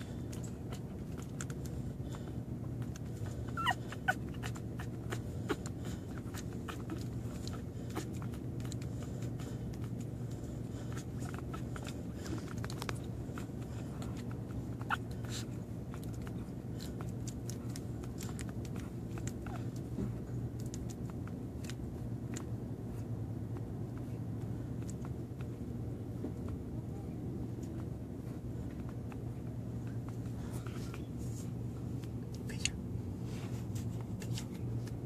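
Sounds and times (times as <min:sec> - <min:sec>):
puppies suckling smacking clicks: 0:00.0 - 0:33.0, 0:33.6 - 0:35.0
steady low hum: 0:00.0 - 0:35.0.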